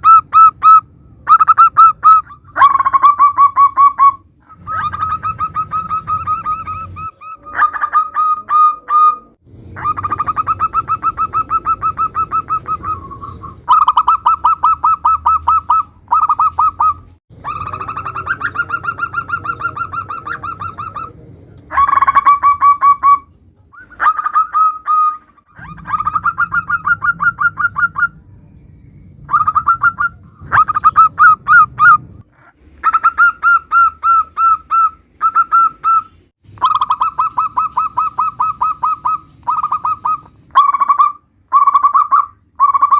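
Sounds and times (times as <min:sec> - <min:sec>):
doves calling: 0:00.0 - 0:42.9.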